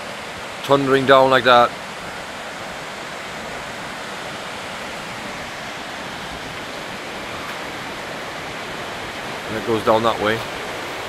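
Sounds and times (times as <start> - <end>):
waterfall and flooded river rushing: 0.0 - 11.0.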